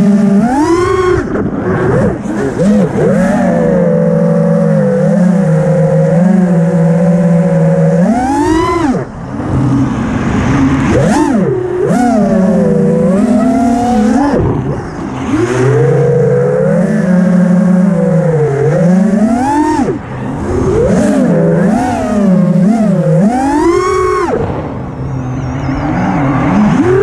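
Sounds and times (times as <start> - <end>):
drone motors and propellers whining: 0.0 - 27.0.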